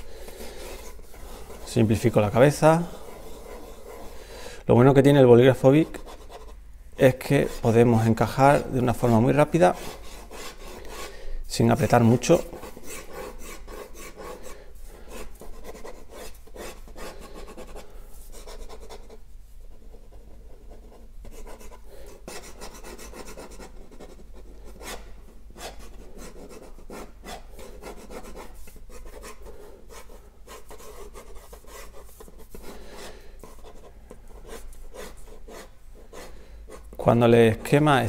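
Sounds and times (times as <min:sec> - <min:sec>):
pen scratching on paper: 0:00.3 - 0:04.2, 0:05.8 - 0:06.6, 0:07.2 - 0:07.8, 0:08.5 - 0:11.1, 0:11.8 - 0:19.2, 0:19.9 - 0:36.9.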